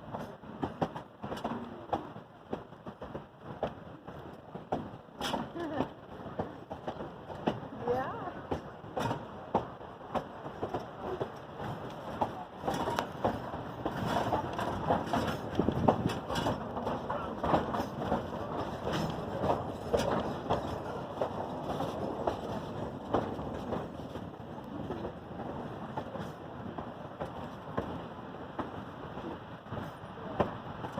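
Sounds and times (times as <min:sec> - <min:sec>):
train rumbling: 0:00.0 - 0:30.9
wheels clacking on track: 0:00.0 - 0:30.9.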